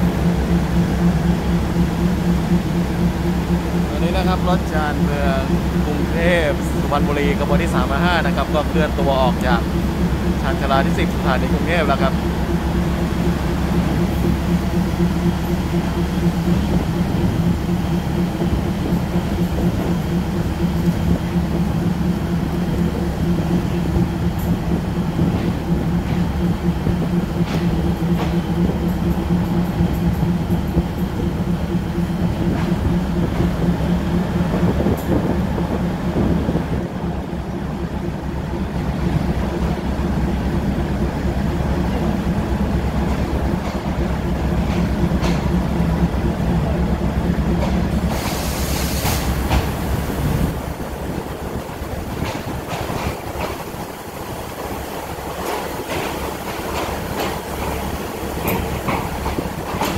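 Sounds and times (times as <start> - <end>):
train engine drone: 0.0 - 59.9
train hiss: 0.0 - 59.9.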